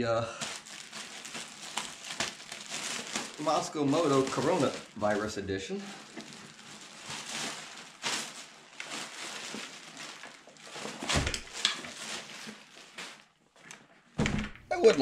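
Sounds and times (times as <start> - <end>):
packaging rustling and crinkling: 0.3 - 14.2.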